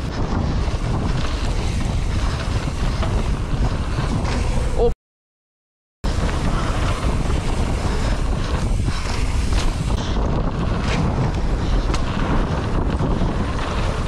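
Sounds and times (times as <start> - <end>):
bike rumbling over dirt: 0.0 - 4.8, 6.0 - 14.0
wind buffeting microphone: 0.0 - 4.9, 6.0 - 14.0.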